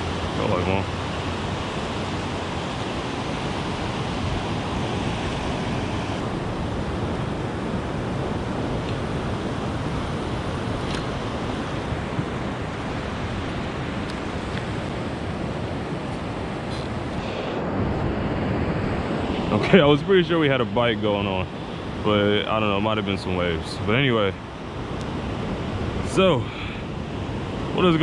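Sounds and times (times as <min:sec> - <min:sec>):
waves breaking on beach: 0:00.0 - 0:28.0
wind on microphone: 0:00.0 - 0:28.0.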